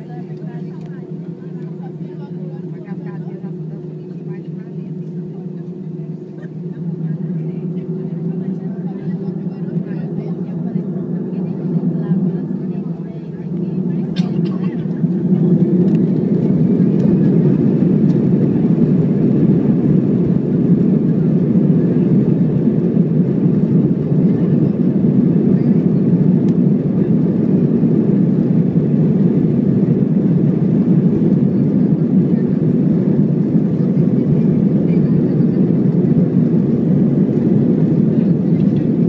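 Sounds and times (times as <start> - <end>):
airplane cabin drone: 0.0 - 39.0.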